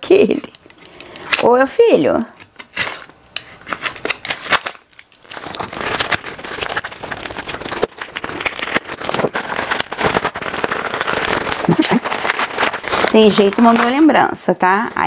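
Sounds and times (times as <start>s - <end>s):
packaging crinkling and rustling: 2.4s - 15.0s.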